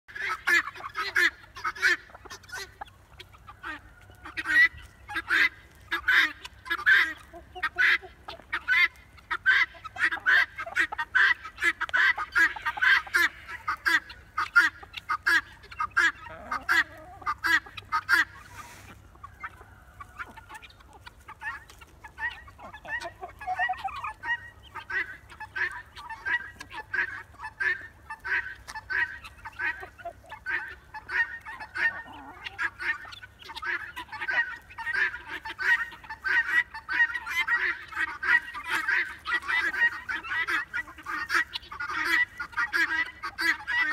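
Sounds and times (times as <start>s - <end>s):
guinea fowl calling: 0.1s - 43.9s.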